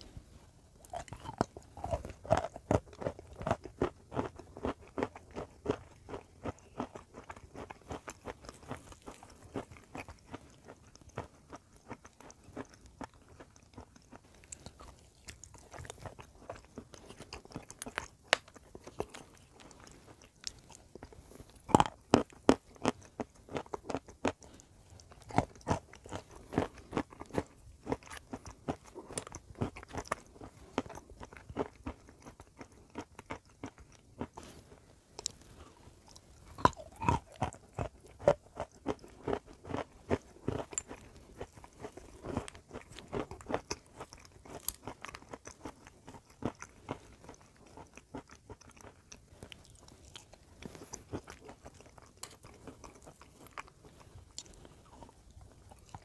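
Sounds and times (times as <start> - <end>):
person crunching brittle food: 0.1 - 56.0.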